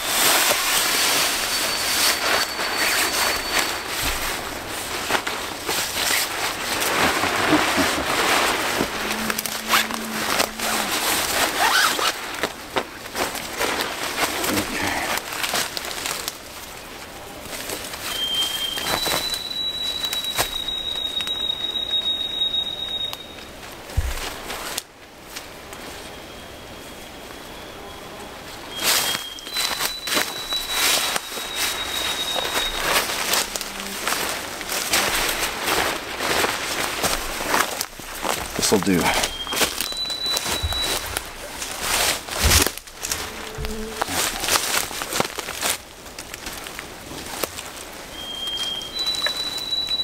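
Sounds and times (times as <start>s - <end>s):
nylon fabric rustling and crinkling: 0.0s - 26.1s, 28.6s - 50.0s.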